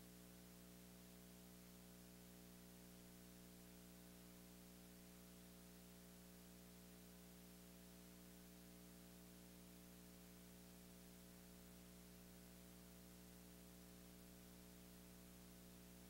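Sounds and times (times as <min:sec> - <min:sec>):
faint electrical hum with hiss: 0:00.0 - 0:16.0.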